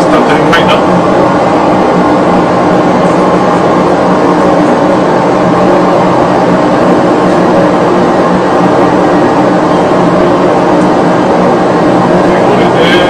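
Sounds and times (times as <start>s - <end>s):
airliner engine and airflow noise: 0.0s - 13.0s
low hum: 0.0s - 13.0s.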